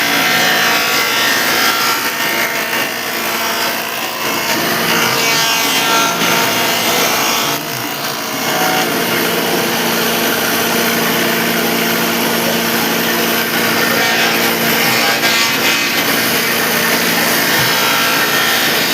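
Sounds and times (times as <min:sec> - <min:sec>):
electric wood planer shaving wood: 0:00.0 - 0:18.9.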